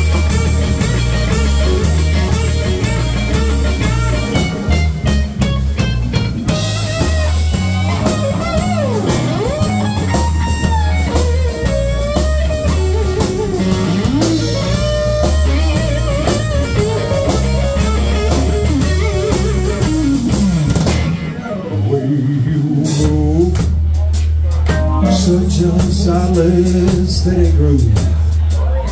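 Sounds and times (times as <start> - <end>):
electric guitar bending notes: 0.0 - 23.6, 24.6 - 27.4
bass line: 0.0 - 28.9
drums: 0.0 - 28.9.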